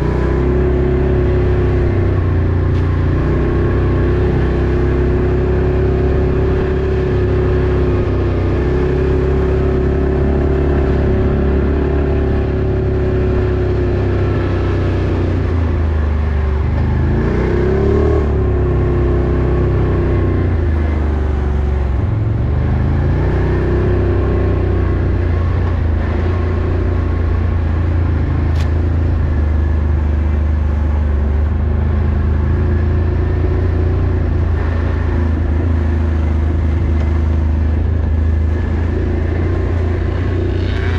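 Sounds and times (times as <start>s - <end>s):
off-road vehicle engine running: 0.0s - 40.9s.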